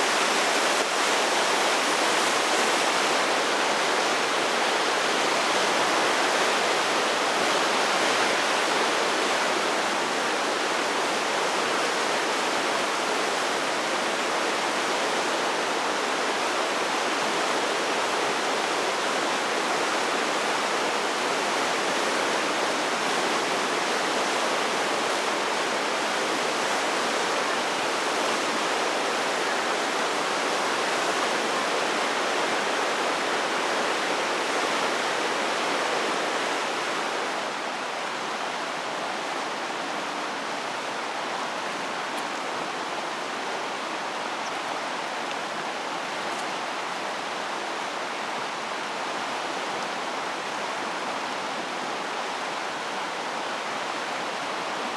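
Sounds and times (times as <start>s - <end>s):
river rushing: 0.0s - 54.9s.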